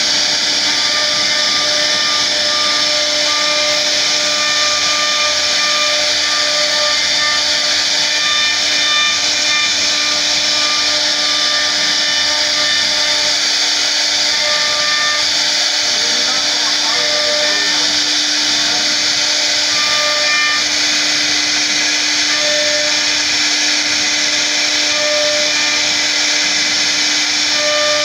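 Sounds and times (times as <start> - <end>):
router spindle whine: 0.0 - 28.0
bit cutting wood hiss: 0.2 - 28.0.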